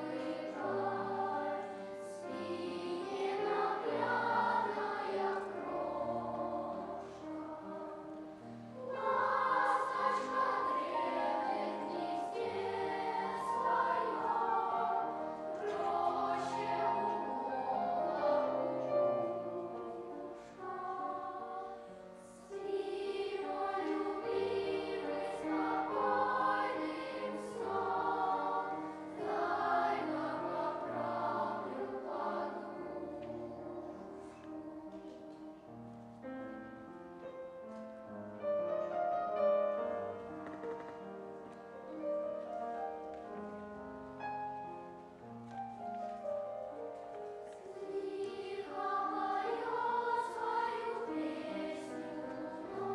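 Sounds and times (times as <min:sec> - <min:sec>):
children's choir singing a lullaby: 0:00.0 - 0:52.9.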